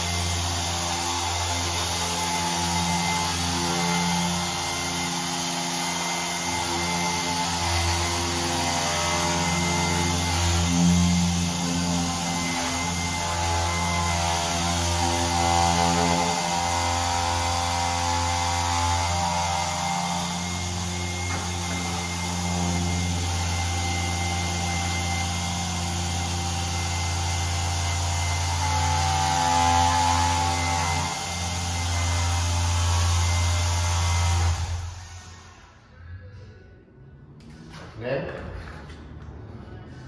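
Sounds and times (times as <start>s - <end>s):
car polisher motor hum: 0.0s - 35.7s.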